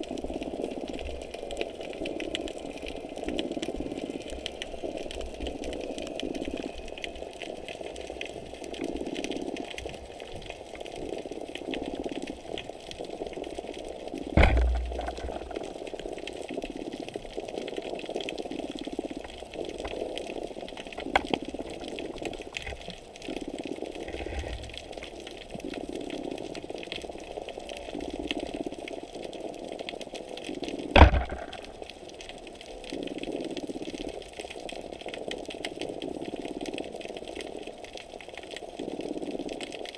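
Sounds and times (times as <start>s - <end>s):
muffled underwater water movement: 0.0s - 39.9s.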